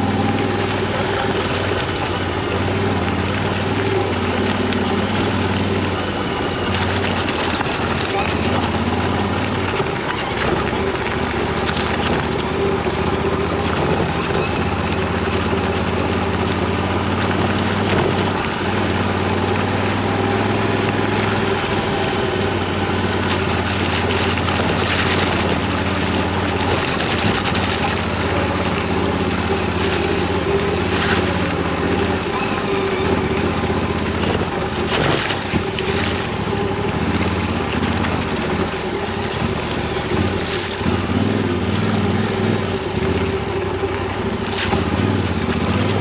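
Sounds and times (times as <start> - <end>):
motorcycle engine running: 0.0 - 46.0
tyres rolling over gravel: 0.0 - 46.0.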